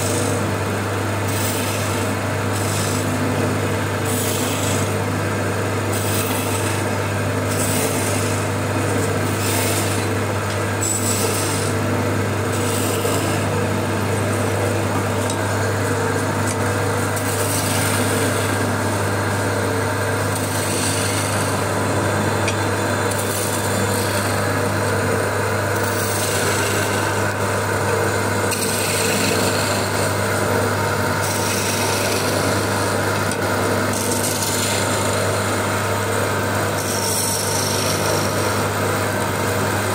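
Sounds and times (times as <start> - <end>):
chisel cutting spinning wood: 0.0 - 39.9
wood lathe humming: 0.0 - 39.9.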